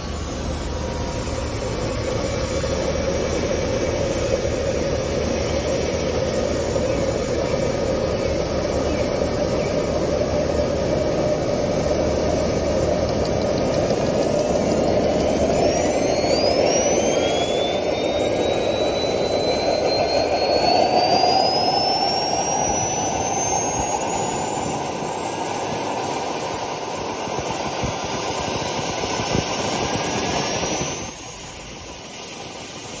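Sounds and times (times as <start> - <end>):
helicopter turbine spooling up: 0.0 - 33.0.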